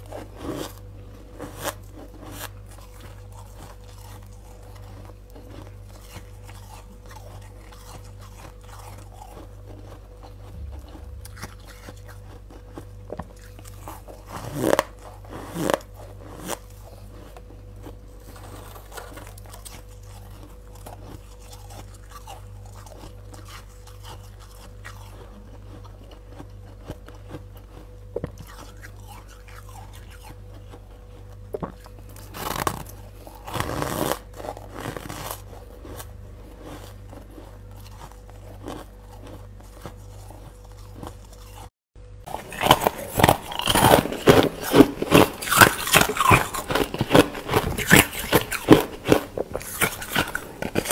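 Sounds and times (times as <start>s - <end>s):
frost being crunched and chewed: 0.0s - 41.7s, 42.3s - 50.9s
faint steady hum: 0.0s - 50.9s.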